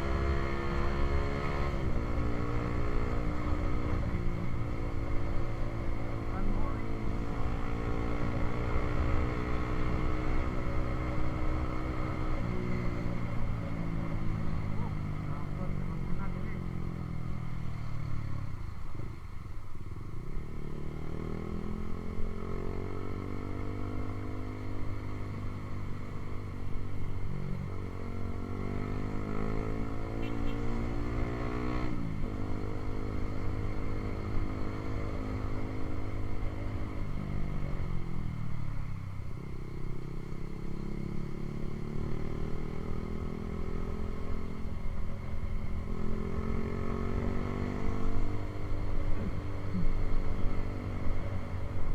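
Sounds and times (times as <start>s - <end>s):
motorcycle engine revving: 0.0s - 18.0s, 20.4s - 51.9s.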